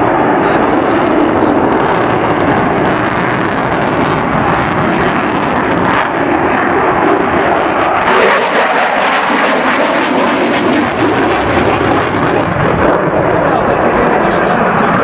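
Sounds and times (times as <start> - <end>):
aircraft engine: 0.0 - 15.0.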